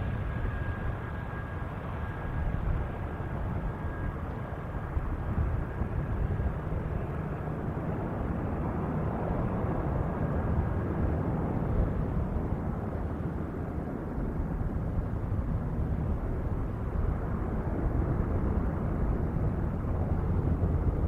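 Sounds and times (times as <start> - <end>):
propeller aircraft rumbling low: 0.0 - 21.0.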